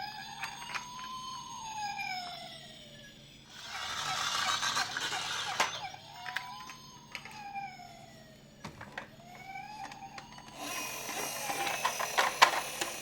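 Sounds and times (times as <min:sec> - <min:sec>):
toy electronic siren wailing: 0:00.0 - 0:13.0.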